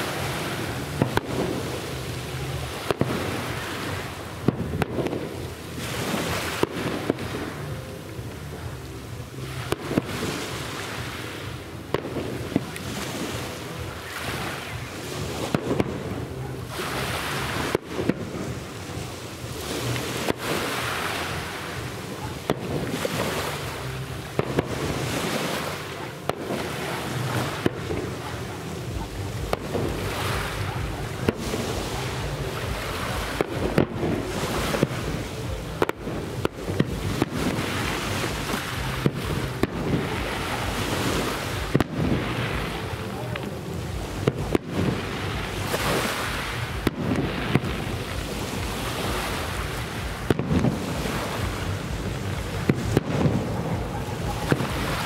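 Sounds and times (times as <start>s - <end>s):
fireworks bursting: 0.0s - 55.0s
steady rushing noise: 0.0s - 55.0s.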